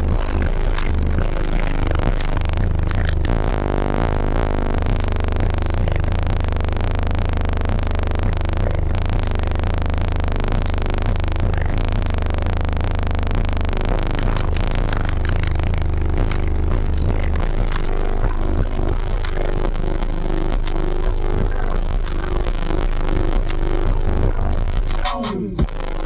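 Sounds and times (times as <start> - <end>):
car stereo music with deep bass: 0.0 - 26.0.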